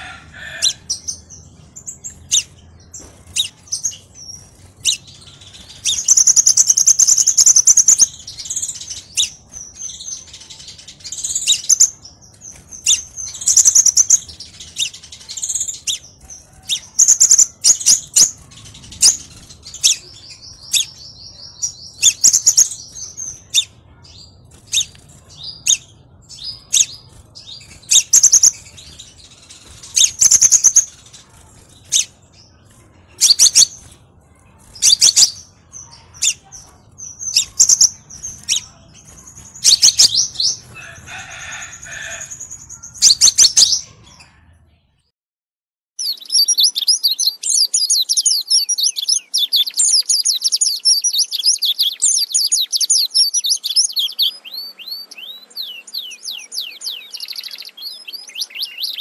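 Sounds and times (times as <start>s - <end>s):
songbirds chirping: 0.0s - 45.1s, 46.0s - 59.0s.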